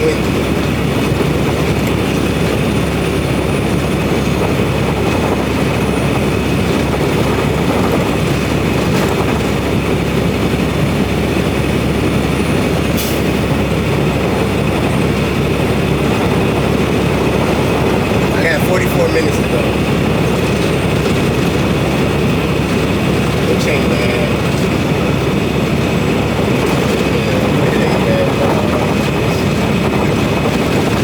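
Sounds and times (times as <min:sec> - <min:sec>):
road noise: 0:00.0 - 0:31.0
truck engine drone: 0:00.0 - 0:31.0.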